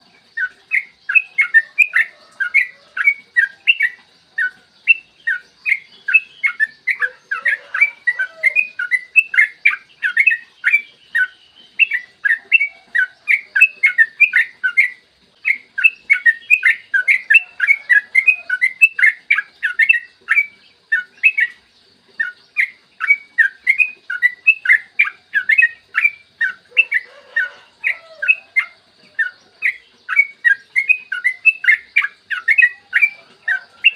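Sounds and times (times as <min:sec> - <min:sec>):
bulbul singing whistled notes: 0:00.0 - 0:33.9.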